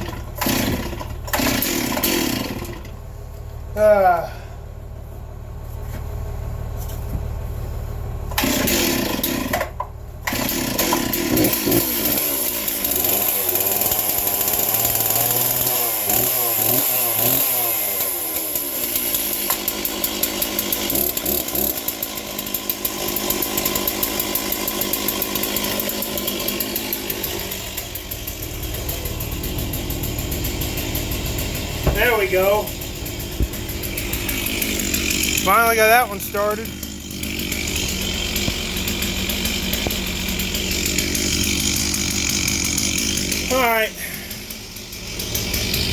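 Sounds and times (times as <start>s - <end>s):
two-stroke engine starting and running: 0.0s - 4.9s, 7.8s - 45.9s.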